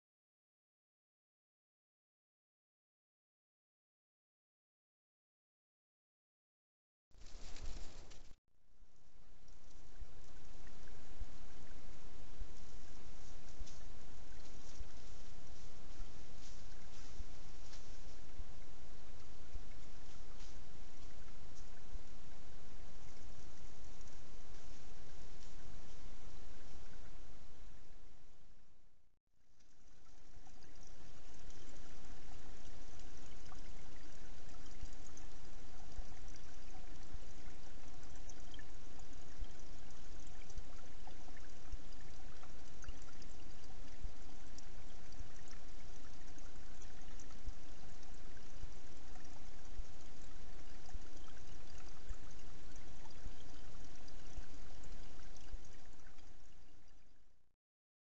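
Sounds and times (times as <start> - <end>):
faint steady hum: 7.2 - 57.5.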